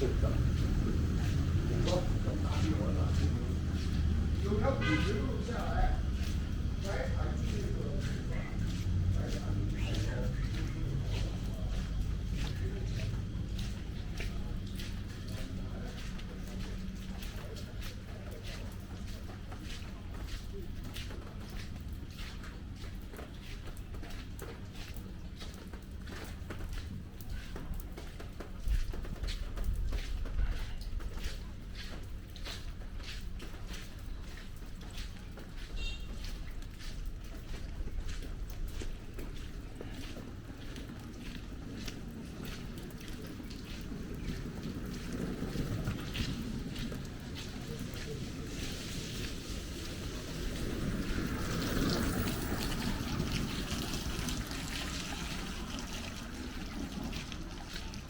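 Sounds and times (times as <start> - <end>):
footsteps on wet stone: 0.0 - 58.0
rainwater trickling and dripping: 0.0 - 58.0.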